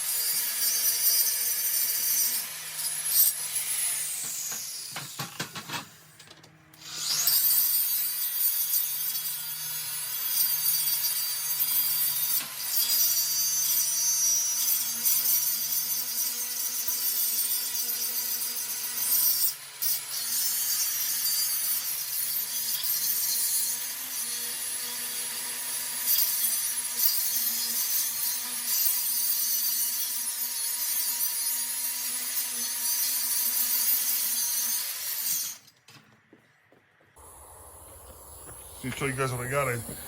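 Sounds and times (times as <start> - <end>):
electric grinder grinding metal: 0.0 - 5.8, 6.8 - 35.7.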